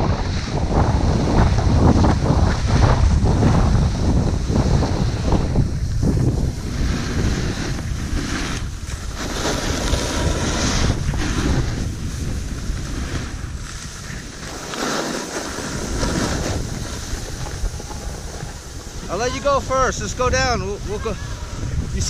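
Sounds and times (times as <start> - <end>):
snowboard sliding over snow: 0.0 - 22.0
wind buffeting microphone: 0.0 - 22.0.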